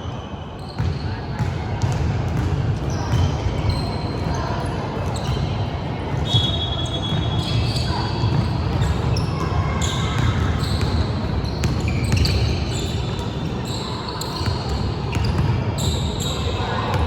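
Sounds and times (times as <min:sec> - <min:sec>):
sneakers squeaking: 0:00.0 - 0:17.0.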